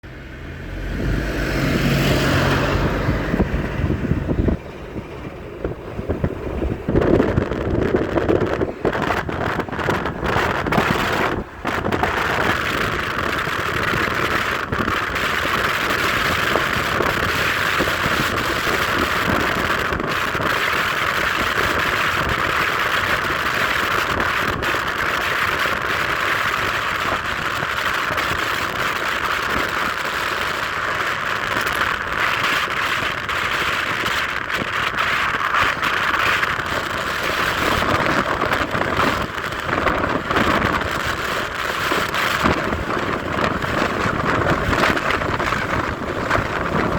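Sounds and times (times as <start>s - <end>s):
road and wind noise in car: 0.0s - 46.9s.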